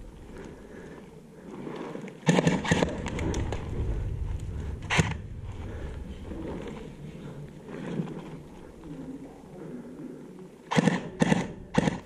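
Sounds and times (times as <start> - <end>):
rubble crunching under crawling person: 0.0 - 10.5.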